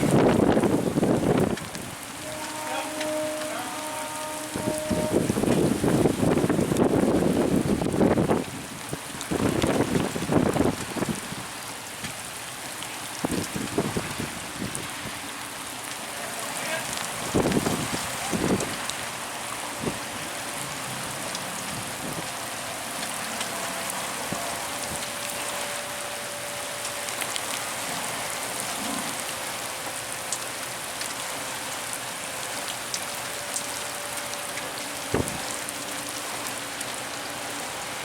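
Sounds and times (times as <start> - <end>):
rain hiss: 0.0 - 38.0.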